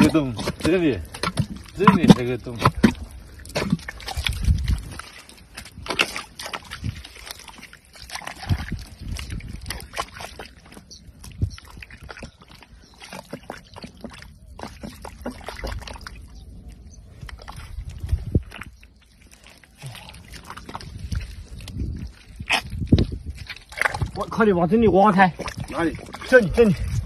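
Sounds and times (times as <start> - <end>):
hand squelching in wet mud: 0.0 - 27.0.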